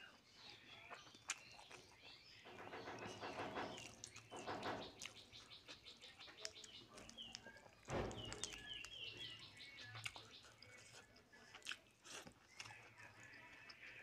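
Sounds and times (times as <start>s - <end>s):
biting and chewing: 0.9s - 14.0s.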